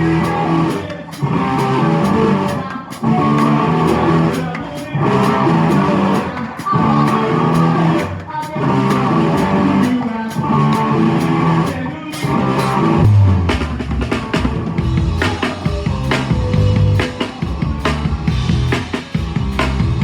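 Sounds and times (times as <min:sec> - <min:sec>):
bass guitar: 0:00.0 - 0:20.0
drum kit: 0:00.0 - 0:20.0.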